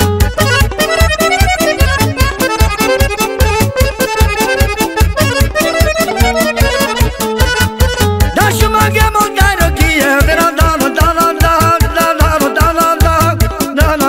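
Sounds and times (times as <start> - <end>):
accordion melody: 0.0 - 14.0
driving beat and bass: 0.0 - 14.0.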